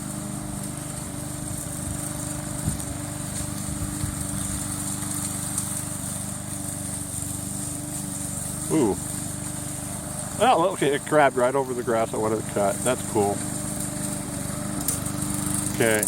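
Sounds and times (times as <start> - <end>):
remote-control lawn mower running: 0.0 - 16.0.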